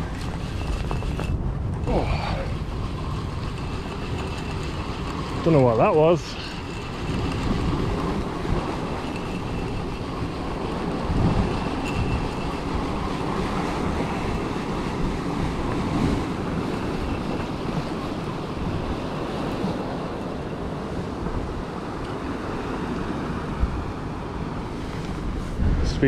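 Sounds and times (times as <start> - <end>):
sea waves breaking over rocks: 0.0 - 26.0
wind rumbling on microphone: 0.0 - 26.0.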